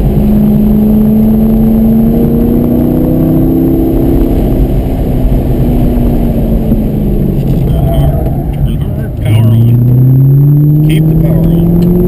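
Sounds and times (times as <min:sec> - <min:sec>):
car engine pulling hard: 0:00.0 - 0:12.0
road and wind noise: 0:00.0 - 0:12.0.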